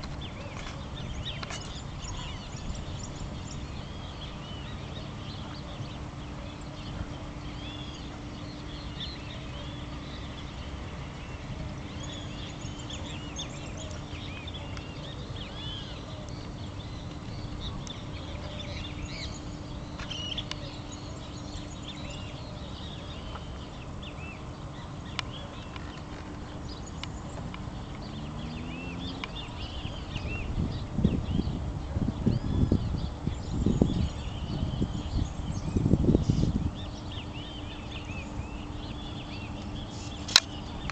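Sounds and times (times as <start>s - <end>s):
low hum and rumble: 0.0s - 40.9s
small birds chirping: 0.0s - 40.9s.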